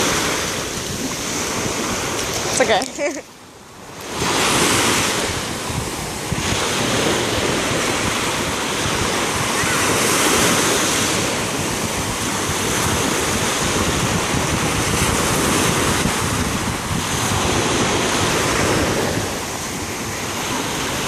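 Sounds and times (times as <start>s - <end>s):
small ocean waves breaking: 0.0s - 21.0s
wind buffeting microphone: 0.0s - 21.0s.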